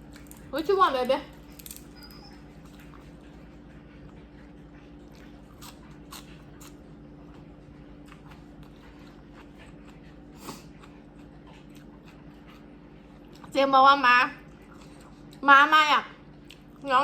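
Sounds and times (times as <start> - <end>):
chewing and crunching: 0.0 - 17.0
steady low hum: 0.0 - 17.0.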